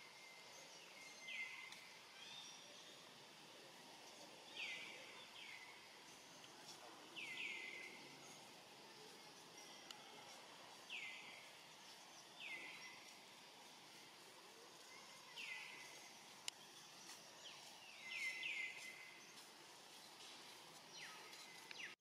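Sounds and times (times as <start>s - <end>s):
faint outdoor background noise: 0.0s - 22.0s.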